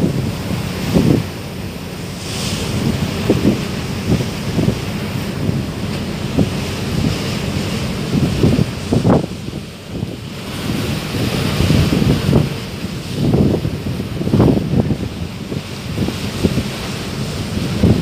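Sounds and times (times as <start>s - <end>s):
low rumble of ship and water: 0.0s - 18.0s
wind gusting against microphone: 0.0s - 18.0s.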